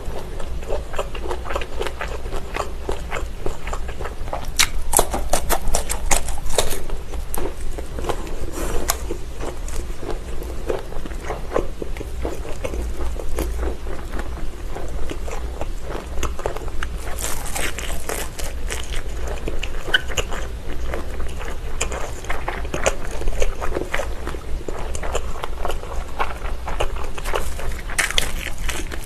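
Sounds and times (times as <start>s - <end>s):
chewing sausages with wet snaps: 0.1s - 8.2s, 8.8s - 29.0s.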